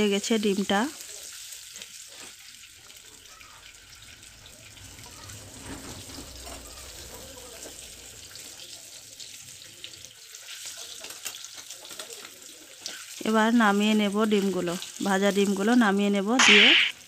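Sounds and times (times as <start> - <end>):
eggs sizzling in oil: 0.0 - 17.0.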